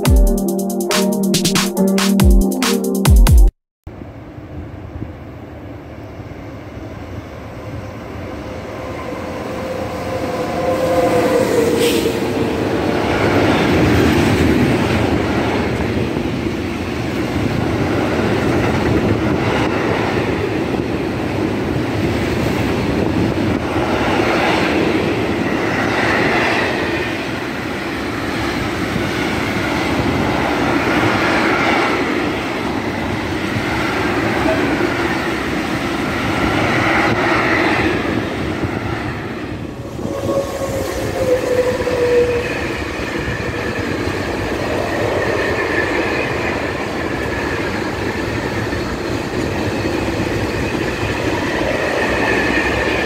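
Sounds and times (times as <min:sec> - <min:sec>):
electric locomotive passing: 0:03.9 - 0:53.0
train wheels rumbling over rails: 0:07.8 - 0:53.0.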